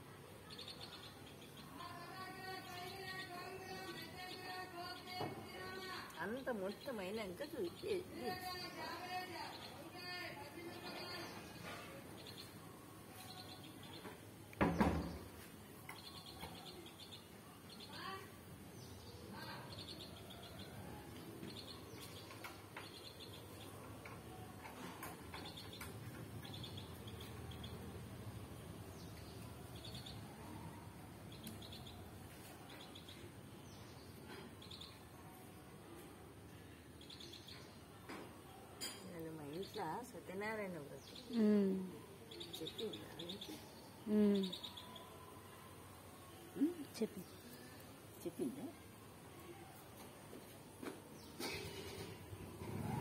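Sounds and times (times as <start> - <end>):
faint bird chirping: 0.4 - 53.0.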